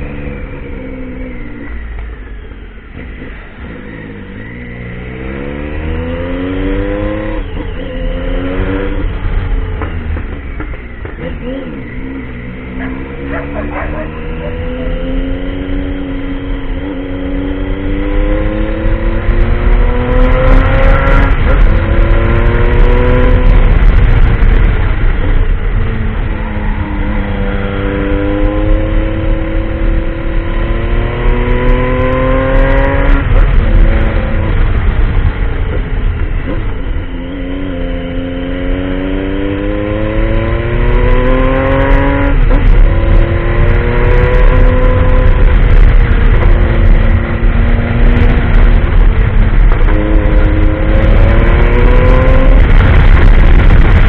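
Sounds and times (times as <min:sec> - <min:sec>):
motorcycle engine revving: 0:00.0 - 0:54.0
wind rumble on microphone: 0:05.9 - 0:54.0.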